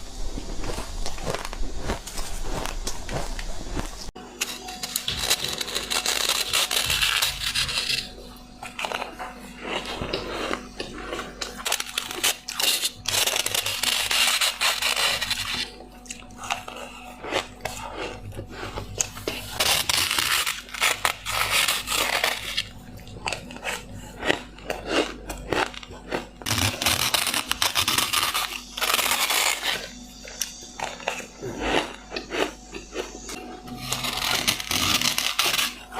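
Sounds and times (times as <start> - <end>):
ice being chewed: 0.3 - 35.9.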